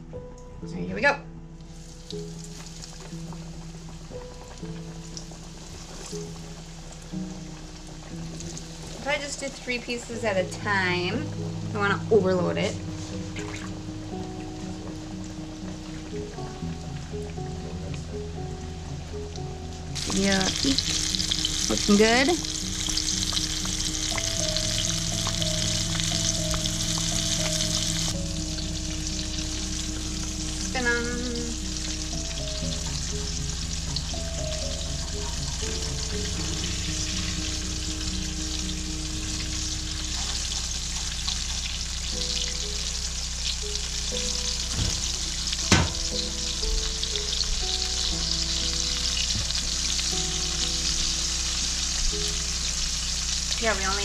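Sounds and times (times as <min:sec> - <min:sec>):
fish deep-frying in oil: 0:01.6 - 0:54.0.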